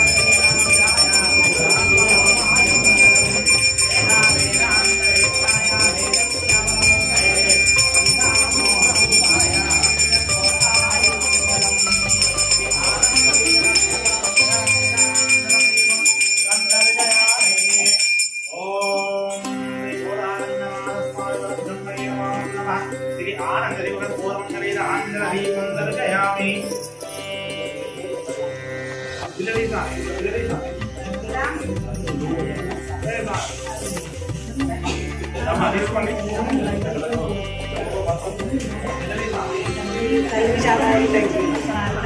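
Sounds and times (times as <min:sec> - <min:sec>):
bells ringing: 0:00.0 - 0:21.9, 0:22.8 - 0:42.0
music: 0:00.0 - 0:42.0.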